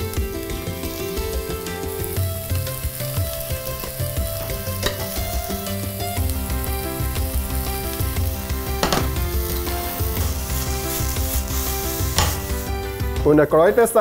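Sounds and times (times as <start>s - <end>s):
background music with low beat: 0.0s - 14.0s
mushrooms sizzling in oil: 0.0s - 14.0s.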